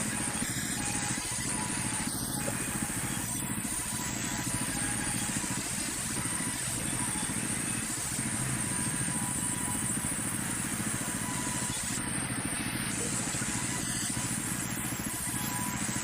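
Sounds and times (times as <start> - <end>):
thin high whine: 0.0 - 16.0.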